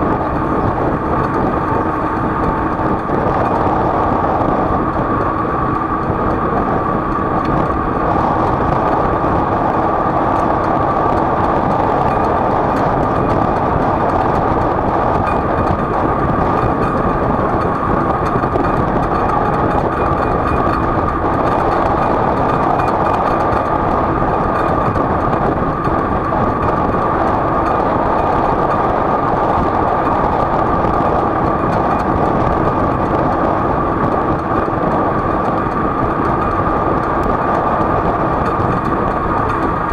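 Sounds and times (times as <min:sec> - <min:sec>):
steady high hum: 0:00.0 - 0:39.9
vehicle running drone: 0:00.0 - 0:39.9.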